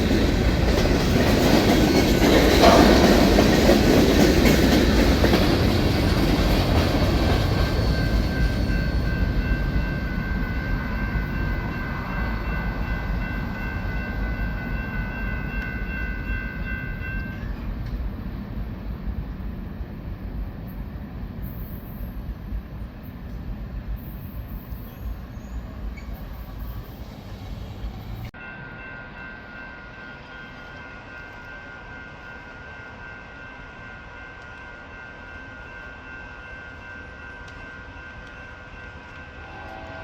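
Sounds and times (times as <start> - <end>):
train rumbling past: 0.0 - 40.0.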